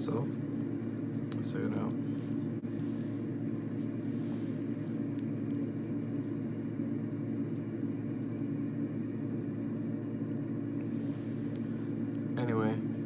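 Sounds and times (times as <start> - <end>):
low mechanical hum and rumble: 0.0 - 13.0.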